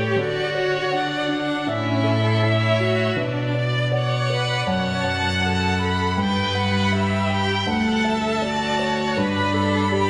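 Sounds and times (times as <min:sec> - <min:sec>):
slow sad string music: 0:00.0 - 0:10.0.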